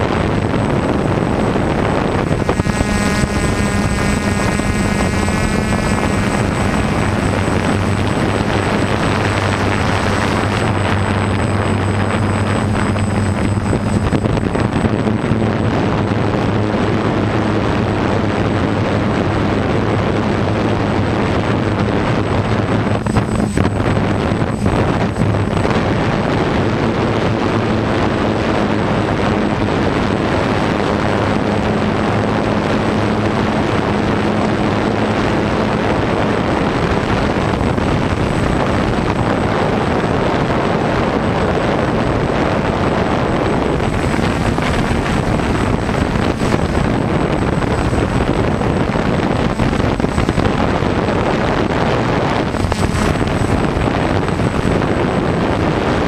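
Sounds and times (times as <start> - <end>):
drone motors and propellers: 0.0 - 56.0
wind on microphone: 0.0 - 56.0.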